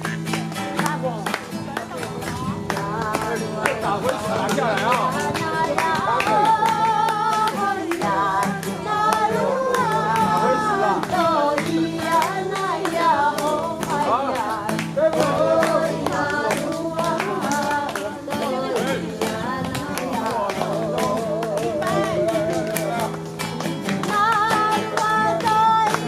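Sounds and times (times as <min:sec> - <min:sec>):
guitar accompaniment: 0:00.0 - 0:26.0
person singing: 0:02.0 - 0:26.0.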